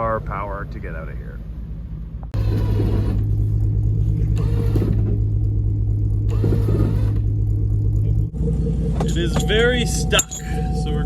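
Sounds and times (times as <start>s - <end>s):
vehicle engine running hard: 0.0s - 11.0s.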